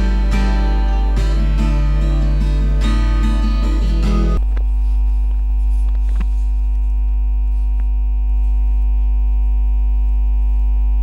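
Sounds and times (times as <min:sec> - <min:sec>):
low electrical hum: 0:02.1 - 0:11.0.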